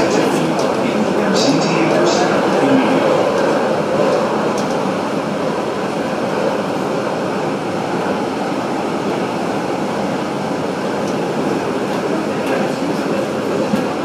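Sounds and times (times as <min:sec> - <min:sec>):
train running on elevated track: 0:00.0 - 0:14.0.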